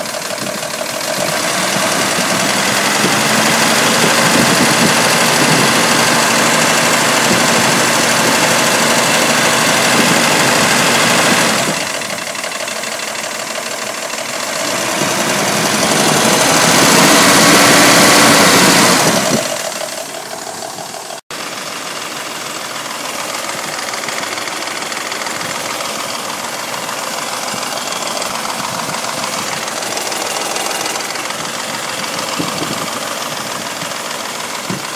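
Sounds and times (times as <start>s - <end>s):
car engine idling: 0.0s - 34.9s
engine ticking rattle: 0.0s - 34.9s.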